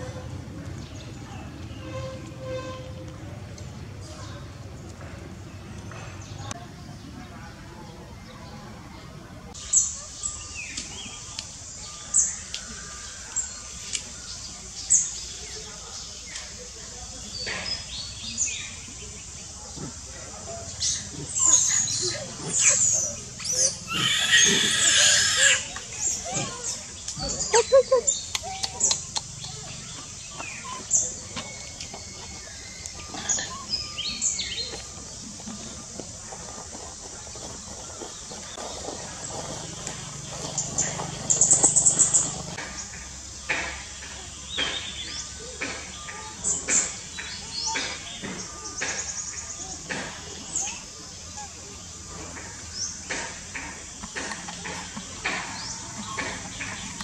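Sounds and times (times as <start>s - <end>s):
birds chirping: 0.0s - 57.0s
low outdoor background noise: 0.0s - 57.0s.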